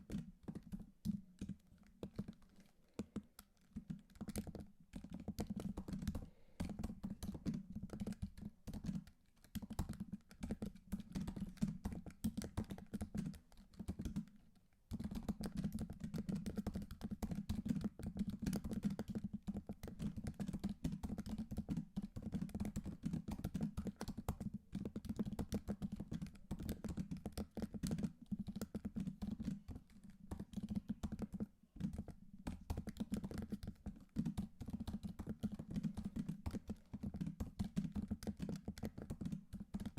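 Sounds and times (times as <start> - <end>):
typing on computer keyboard: 0.0 - 39.9.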